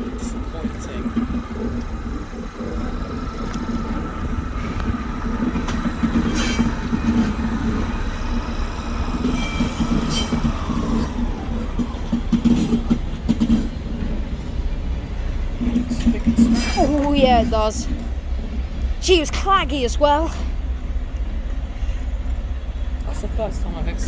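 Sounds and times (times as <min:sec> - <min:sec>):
locomotive passing: 0:00.0 - 0:24.0.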